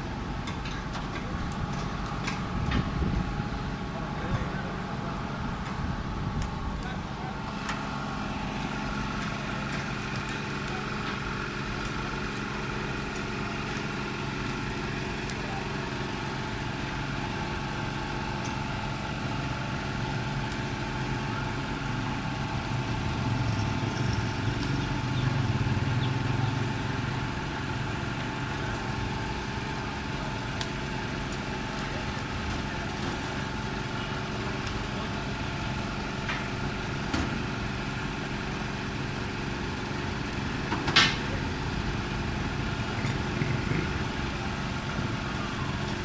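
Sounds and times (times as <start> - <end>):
steady engine-like hum: 0.0 - 46.0.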